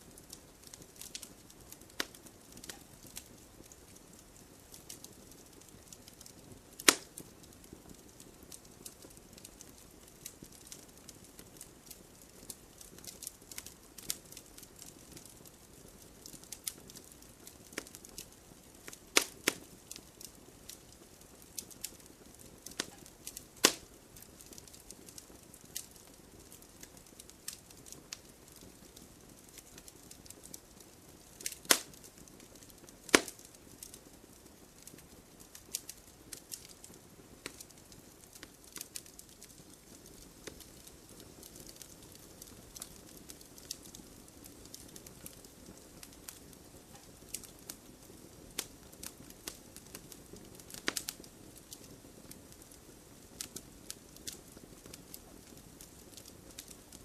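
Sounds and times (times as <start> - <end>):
faint steady hiss: 0.0 - 57.0
wood fire crackling: 0.0 - 57.0.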